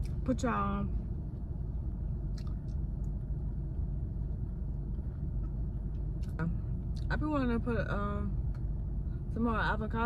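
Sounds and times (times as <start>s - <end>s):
low rumble in car cabin: 0.0s - 10.0s.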